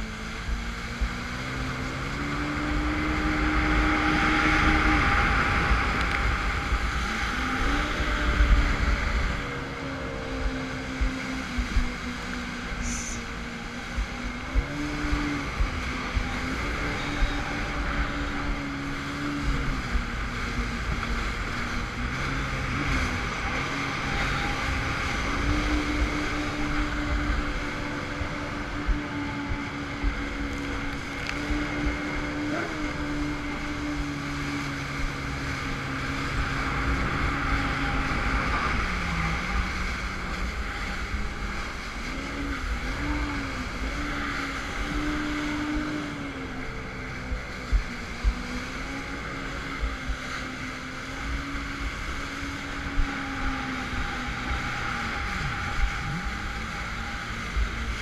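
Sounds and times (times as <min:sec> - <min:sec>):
jet ski engine running: 0:00.0 - 0:58.0
rushing water: 0:00.0 - 0:58.0
wind on microphone: 0:00.0 - 0:58.0.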